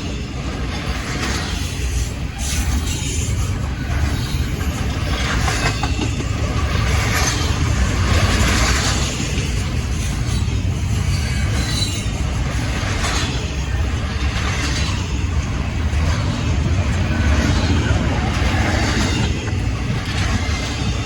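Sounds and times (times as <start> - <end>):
freight train rumbling past: 0.0 - 21.0
train wheels on track: 0.0 - 21.0.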